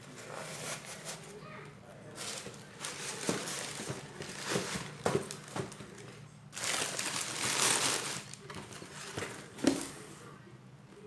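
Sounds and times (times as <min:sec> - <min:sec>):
rustling and handling noises: 0:00.0 - 0:10.4.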